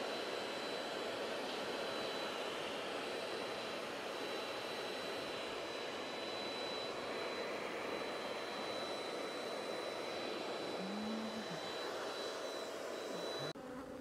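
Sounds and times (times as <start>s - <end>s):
vacuum motor rushing and whining: 0.0s - 13.6s.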